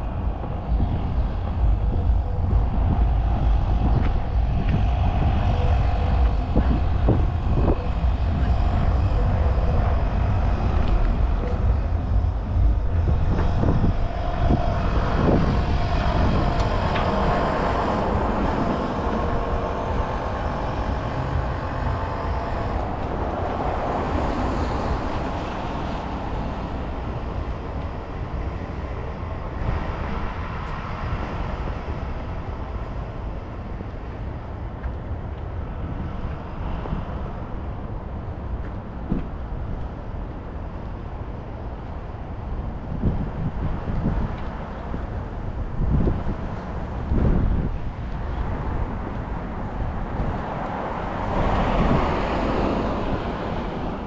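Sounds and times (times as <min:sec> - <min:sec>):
vehicle engine and tyre rumble: 0:00.0 - 0:54.0.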